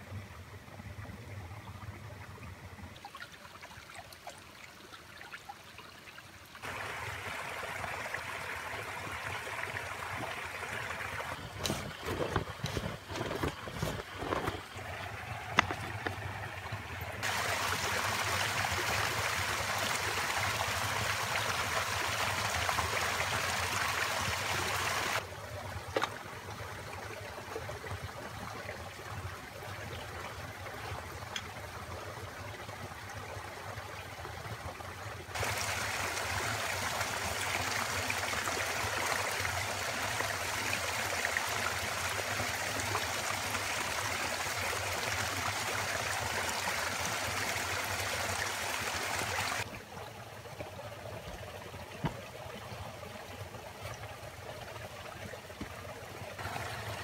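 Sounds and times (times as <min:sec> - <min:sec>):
creek trickling: 0:00.0 - 0:57.0.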